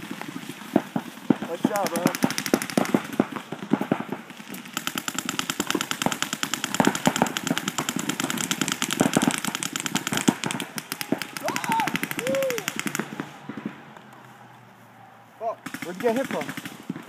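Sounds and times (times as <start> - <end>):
paintball markers firing rapidly: 0.1 - 14.2, 15.6 - 17.0.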